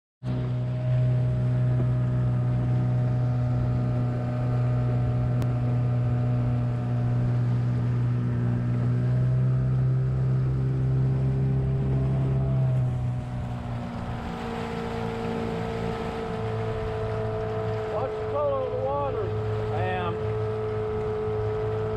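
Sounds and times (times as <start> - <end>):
outboard motor running: 0.2 - 21.9.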